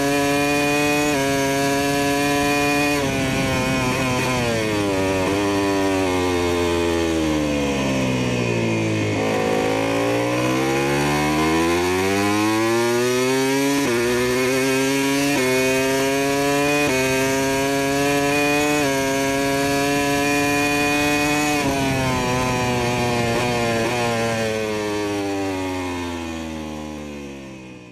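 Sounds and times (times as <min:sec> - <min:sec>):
motorcycle engine revving and upshifting: 0:00.0 - 0:27.9.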